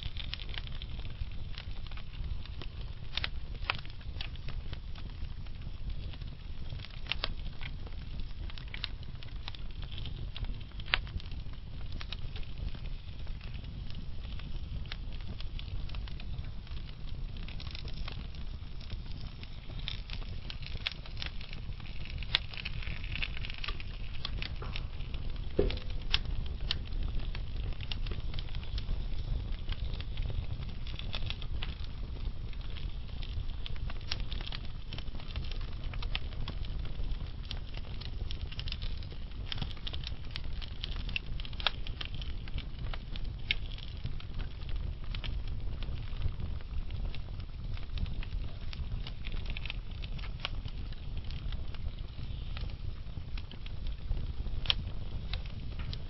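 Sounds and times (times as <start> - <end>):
fire low rumble: 0.0 - 56.0
logs crackling and popping: 0.0 - 56.0.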